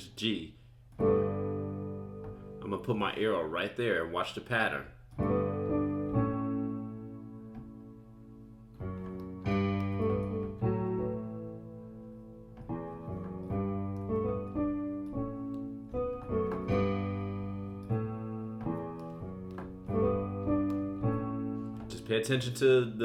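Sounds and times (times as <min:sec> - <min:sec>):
piano chords: 0:00.9 - 0:03.6, 0:05.1 - 0:23.0.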